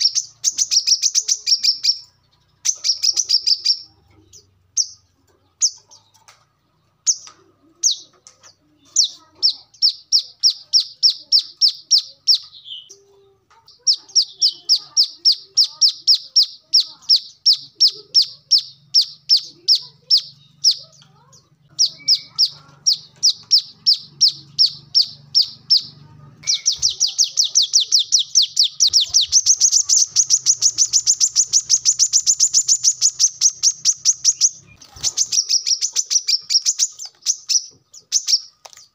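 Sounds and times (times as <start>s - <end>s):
bird singing rapid high chirps: 0.0s - 6.2s, 6.8s - 13.0s, 13.6s - 38.9s.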